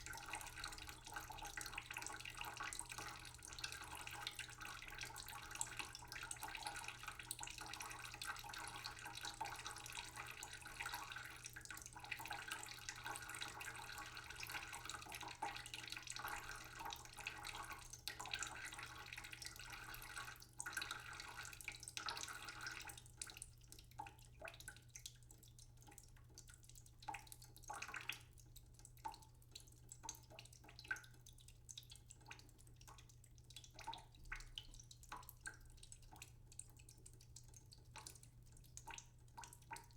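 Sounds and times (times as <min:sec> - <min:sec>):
tap water trickling into pot: 0:00.0 - 0:39.9
water drips and splashes: 0:00.0 - 0:39.9.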